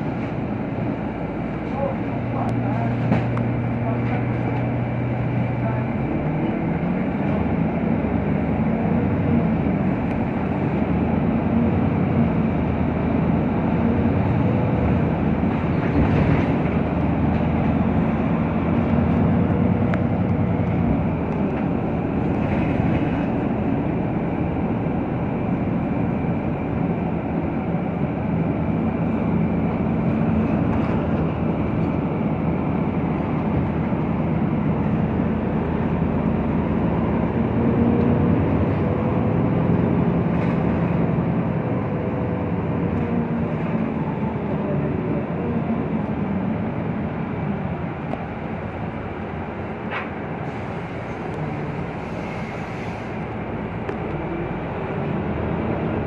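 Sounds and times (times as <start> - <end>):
bus engine humming: 0.0 - 56.0
road and tyre noise: 0.0 - 56.0.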